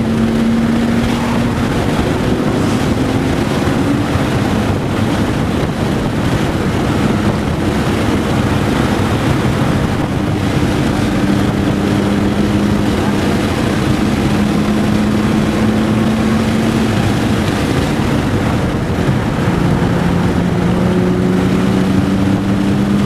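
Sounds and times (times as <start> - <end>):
car engine drone: 0.0 - 23.0
wind and road noise: 0.0 - 23.0.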